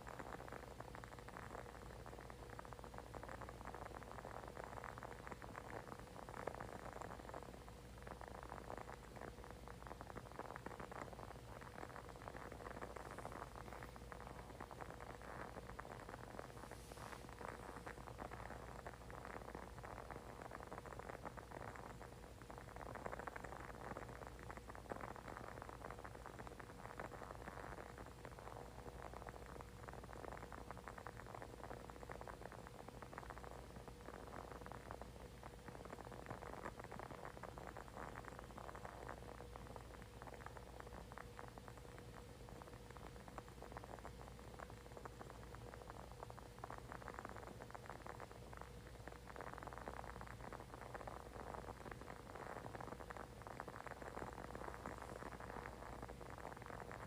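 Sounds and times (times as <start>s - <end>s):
candle crackling: 0.0s - 57.0s
low steady hum: 0.0s - 57.0s.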